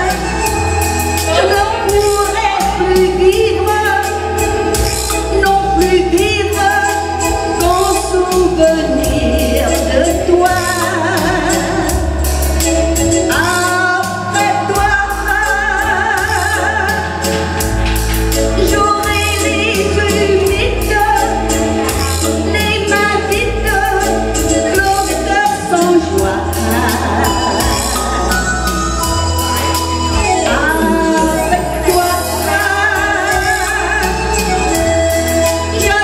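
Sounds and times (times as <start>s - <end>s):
woman singing a slow ballad: 0.0s - 12.3s, 13.3s - 17.7s, 18.5s - 21.6s, 22.4s - 29.0s, 30.4s - 36.0s
steady drum beat: 0.0s - 30.6s
bass line: 0.0s - 36.0s
electronic keyboard: 0.0s - 36.0s.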